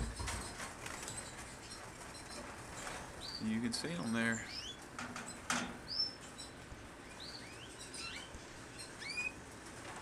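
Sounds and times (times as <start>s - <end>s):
canaries chirping: 0.0s - 9.7s.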